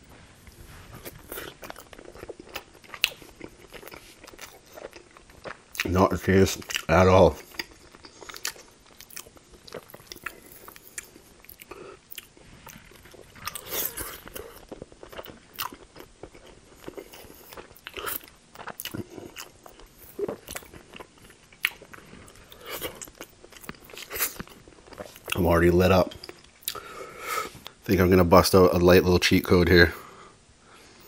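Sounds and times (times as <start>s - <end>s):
close-miked chewing: 0.9s - 27.8s.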